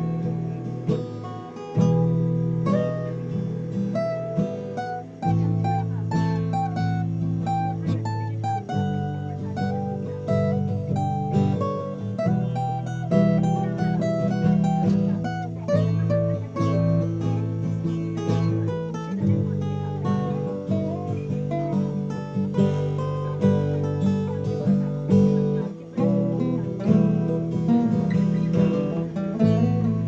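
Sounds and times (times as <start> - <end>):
acoustic guitar picked melody: 0.0 - 30.0.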